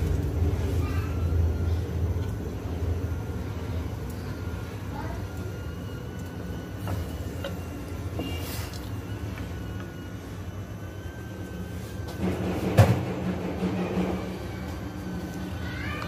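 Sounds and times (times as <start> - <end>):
gas stove burner rumble: 0.0 - 16.0
water boiling in a pot: 0.0 - 16.0.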